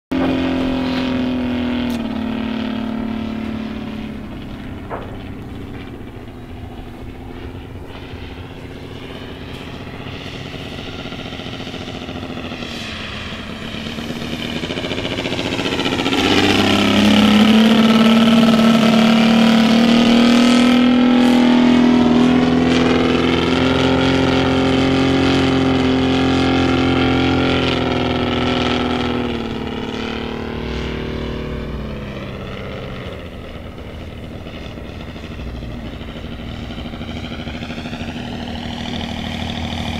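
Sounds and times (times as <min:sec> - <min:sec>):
model plane engine flying overhead: 0:00.1 - 0:39.9.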